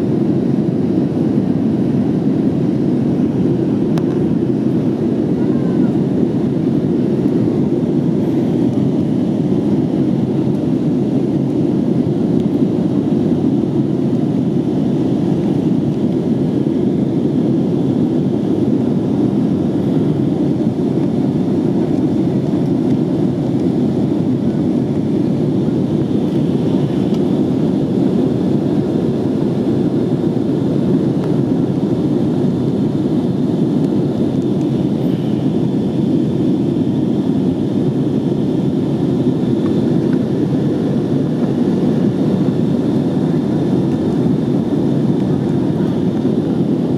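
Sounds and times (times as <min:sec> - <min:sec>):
airplane cabin engine rushing: 0:00.0 - 0:46.9
faint high whine: 0:00.6 - 0:46.9.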